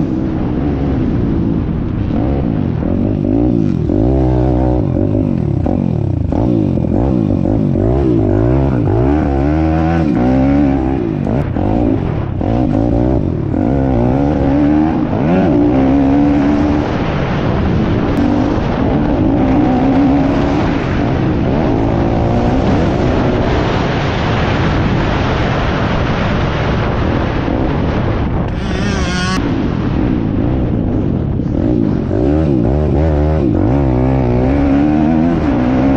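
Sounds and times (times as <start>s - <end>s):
motorbike engine revving: 0.0s - 35.9s
wind rushing over microphone: 0.0s - 35.9s.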